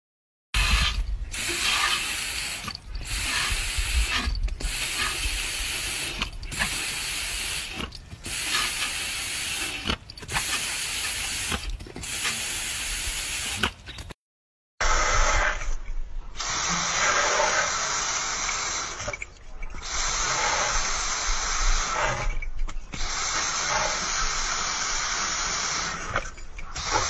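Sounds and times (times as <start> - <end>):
water spraying hiss: 0.6 - 13.9, 16.4 - 19.2, 19.8 - 22.4, 23.0 - 26.2, 26.8 - 27.0.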